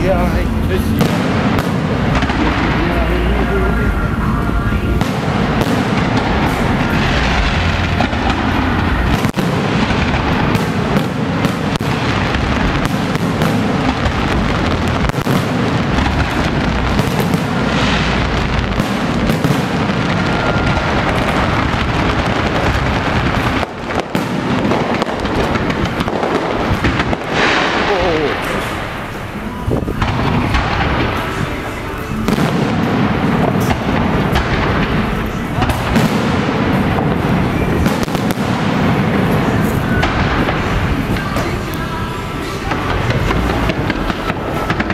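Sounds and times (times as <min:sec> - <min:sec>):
fireworks booms: 0:00.0 - 0:44.9
fireworks crackling: 0:00.0 - 0:44.9.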